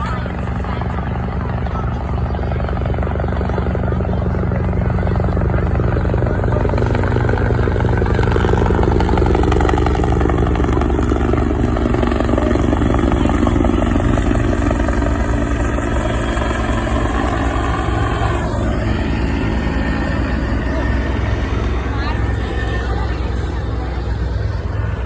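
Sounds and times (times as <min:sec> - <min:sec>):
propeller aircraft flying overhead: 0:00.0 - 0:25.0.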